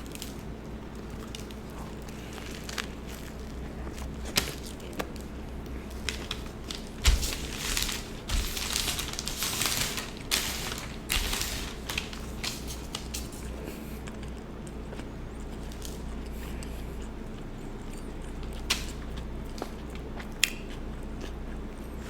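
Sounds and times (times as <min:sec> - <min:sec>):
chewing and biting sandwich: 0:00.0 - 0:22.0.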